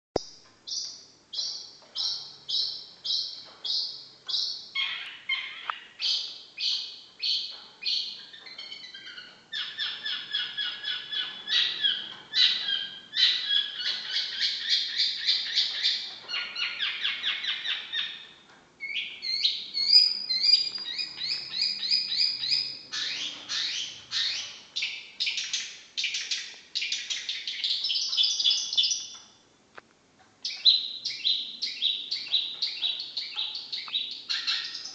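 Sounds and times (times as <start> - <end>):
bird singing rapid sharp notes: 0.2 - 29.4, 30.4 - 34.9.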